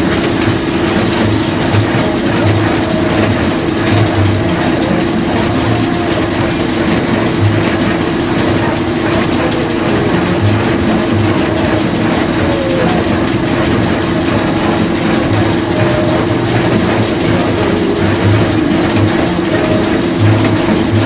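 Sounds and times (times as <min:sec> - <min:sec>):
tractor and machinery rattling: 0:00.0 - 0:21.0.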